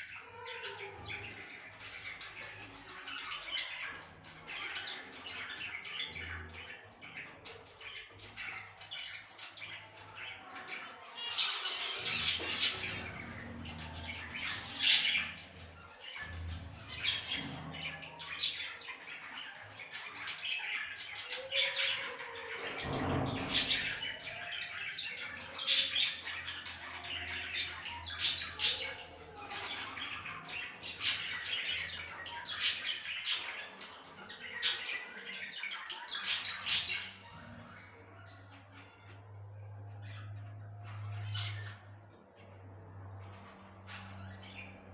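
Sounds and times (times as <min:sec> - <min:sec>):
sharp bird chirps and squawks: 0:00.0 - 0:42.6.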